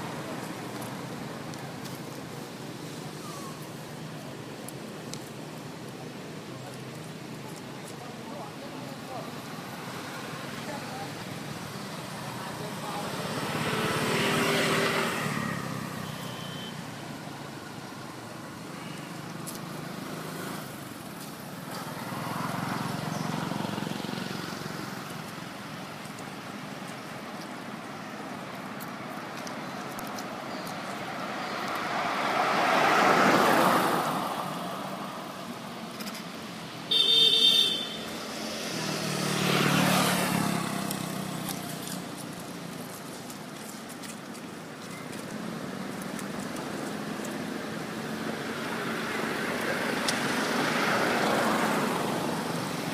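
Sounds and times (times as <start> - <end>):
vehicles passing on road: 0.0 - 52.9.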